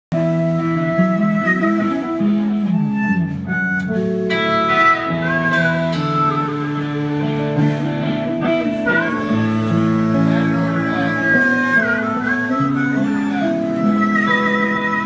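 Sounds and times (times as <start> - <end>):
bass guitar: 0.1 - 15.0
drums: 0.1 - 15.0
electric guitars bending notes: 0.1 - 15.0.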